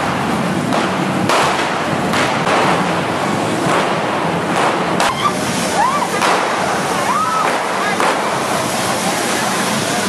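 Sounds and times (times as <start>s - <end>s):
firework fountains hissing: 0.0s - 10.0s
sharp firework cracks: 0.0s - 10.0s.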